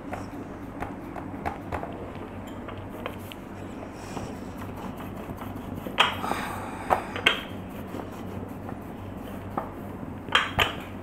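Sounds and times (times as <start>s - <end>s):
rolling pin rolling dough: 0.0s - 11.0s.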